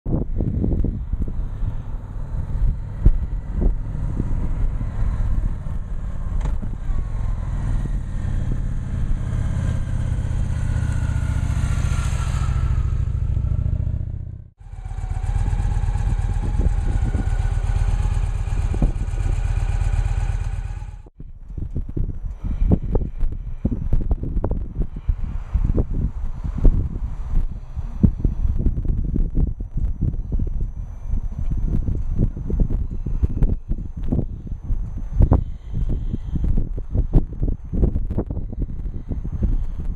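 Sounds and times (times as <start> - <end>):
motorcycle engine rumbling: 0.1 - 39.9.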